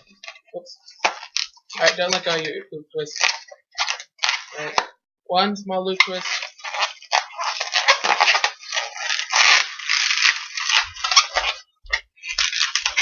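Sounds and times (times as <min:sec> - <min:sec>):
balloon squeaking and rubbing: 0:00.0 - 0:05.0, 0:05.8 - 0:13.0.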